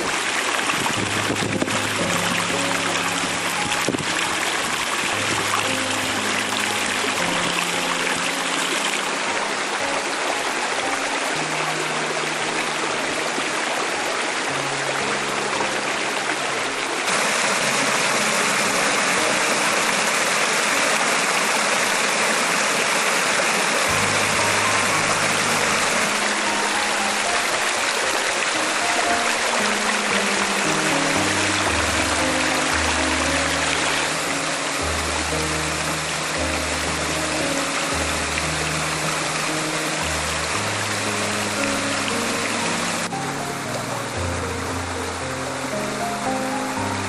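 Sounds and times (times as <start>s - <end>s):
soft music with low held notes: 0.0s - 22.1s, 22.9s - 47.0s
waterfall rushing: 0.0s - 47.0s.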